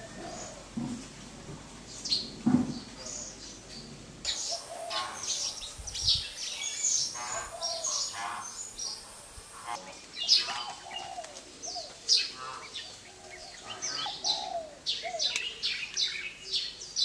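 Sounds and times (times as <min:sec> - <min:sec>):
small birds chirping: 0:01.9 - 0:17.0.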